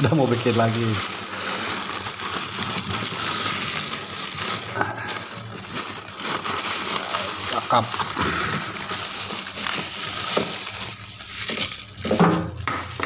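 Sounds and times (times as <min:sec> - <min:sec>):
frozen plastic bags crinkling: 0:00.0 - 0:13.0.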